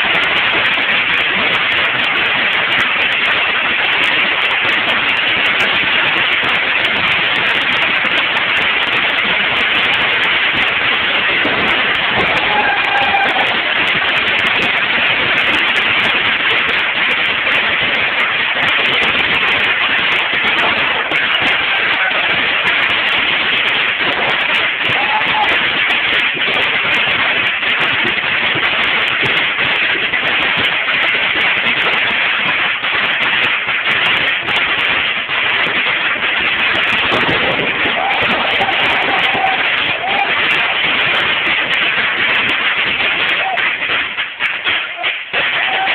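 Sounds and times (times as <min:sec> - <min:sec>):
pyrotechnics hissing crackle: 0:00.0 - 0:45.9.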